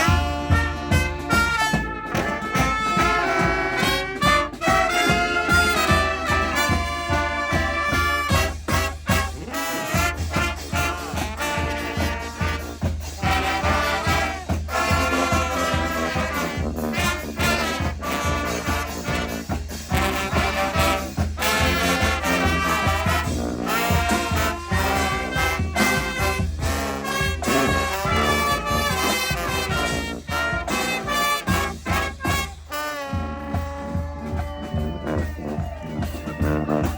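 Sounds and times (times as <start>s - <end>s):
brass band playing: 0.0s - 36.9s.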